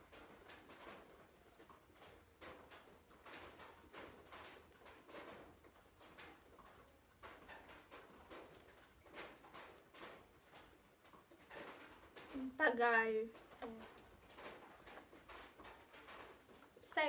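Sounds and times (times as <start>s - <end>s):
soft rustles and taps: 0.0s - 17.0s.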